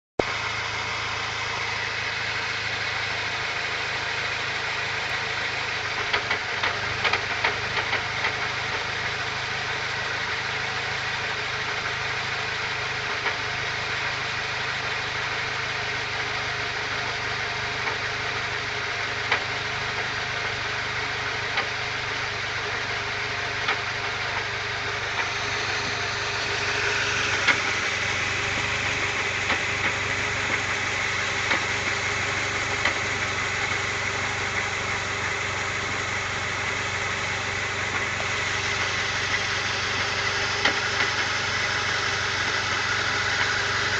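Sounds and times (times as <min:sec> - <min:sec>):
car engine idling: 0:00.2 - 0:43.9.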